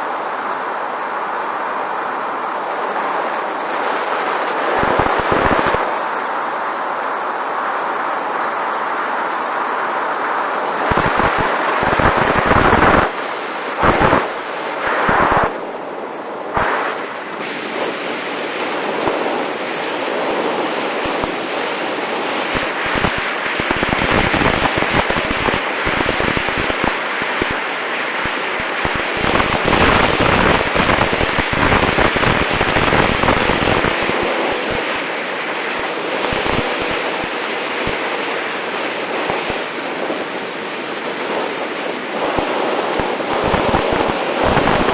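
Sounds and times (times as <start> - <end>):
faint steady whine: 0.0 - 44.9
wind rushing over microphone: 0.0 - 44.9.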